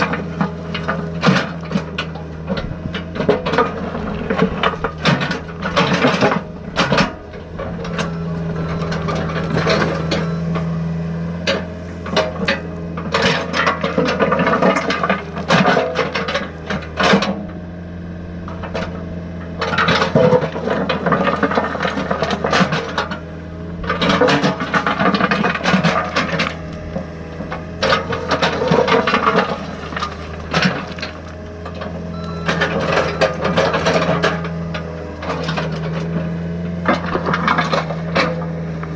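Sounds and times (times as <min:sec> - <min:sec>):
excavator motor hum with rattle: 0:00.0 - 0:38.9.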